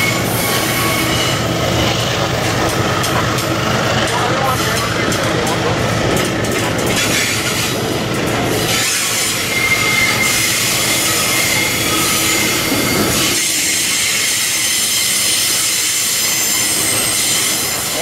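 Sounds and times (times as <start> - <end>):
freight train rolling rumble: 0.0 - 18.0
train wheels squealing on rails: 0.0 - 18.0.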